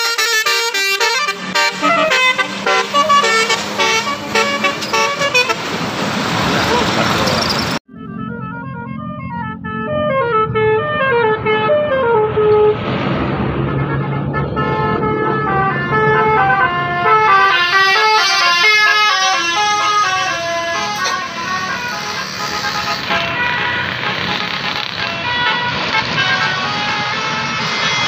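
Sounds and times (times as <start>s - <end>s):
musical bus air horns: 0.0s - 5.8s, 7.9s - 12.8s, 13.6s - 28.0s.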